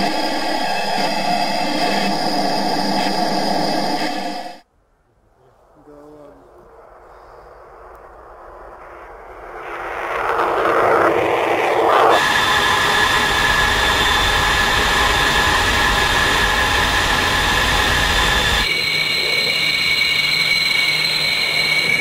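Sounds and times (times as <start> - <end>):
high-pitched jet whine: 0.0 - 4.6, 6.7 - 22.0
rushing jet noise: 0.0 - 4.6, 6.8 - 22.0
low rumble: 0.0 - 5.1, 5.7 - 22.0.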